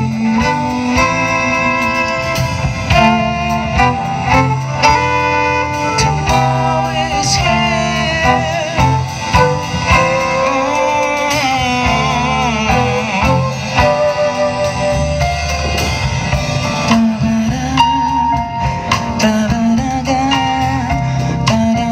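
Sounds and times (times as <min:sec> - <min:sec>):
live jazz band playing: 0:00.0 - 0:21.9.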